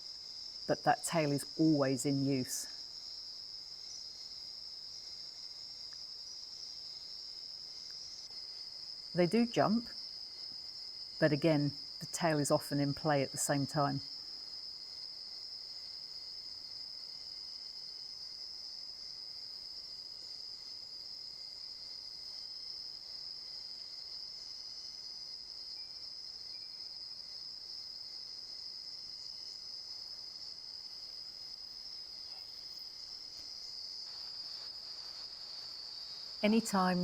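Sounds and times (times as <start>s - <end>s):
insect chorus trilling: 0.0s - 37.0s.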